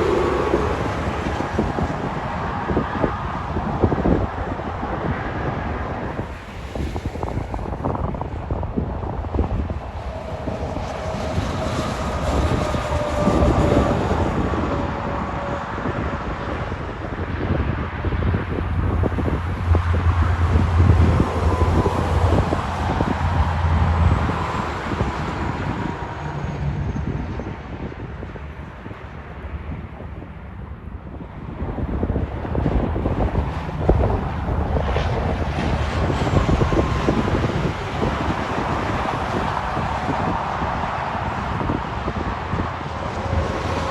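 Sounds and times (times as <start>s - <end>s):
diesel truck engine passing: 0.0s - 29.8s, 31.5s - 43.9s
wind on microphone: 0.0s - 43.9s.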